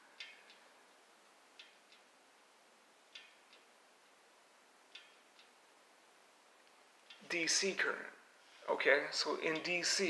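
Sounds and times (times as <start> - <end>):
light ticks from spinning wheel: 0.0 - 7.7, 9.2 - 10.0.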